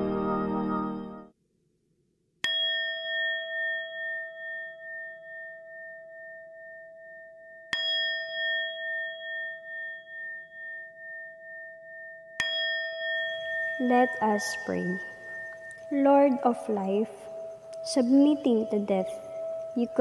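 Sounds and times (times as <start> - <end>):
singing bowl ringing: 2.4 - 20.0.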